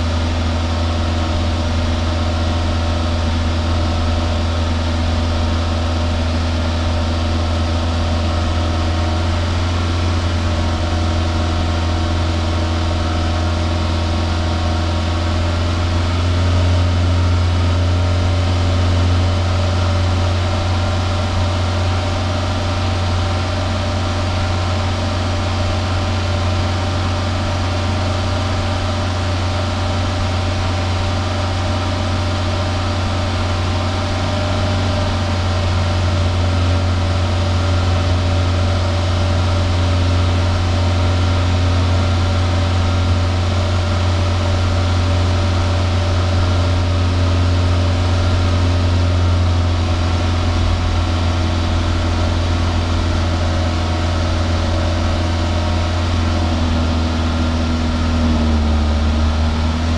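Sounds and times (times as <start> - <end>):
car exhaust running steadily: 0.0 - 59.9.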